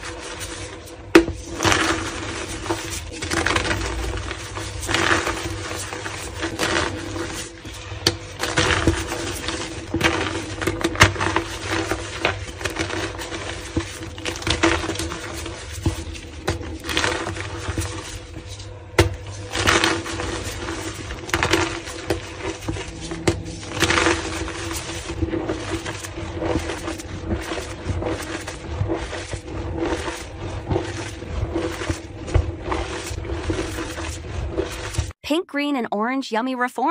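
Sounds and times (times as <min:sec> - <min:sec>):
chalk crunching and crumbling: 0:00.0 - 0:35.2
steady low hum: 0:00.0 - 0:35.2.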